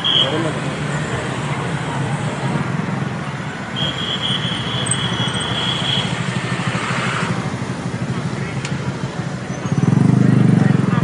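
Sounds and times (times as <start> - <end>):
busy city street noise: 0.0 - 11.0
car and motorbike traffic: 0.0 - 11.0.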